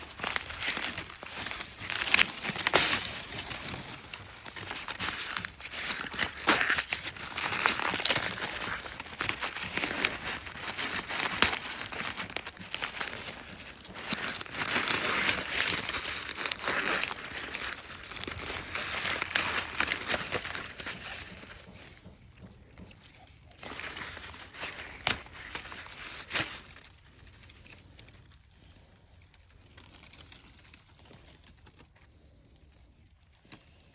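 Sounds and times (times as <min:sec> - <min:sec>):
corn husks rustling and tearing: 0:00.0 - 0:33.9.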